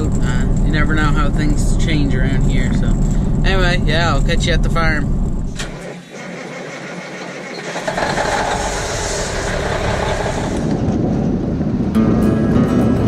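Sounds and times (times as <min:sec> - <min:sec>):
vehicle engine running: 0:00.0 - 0:05.8, 0:07.6 - 0:13.0
road noise: 0:00.0 - 0:13.0.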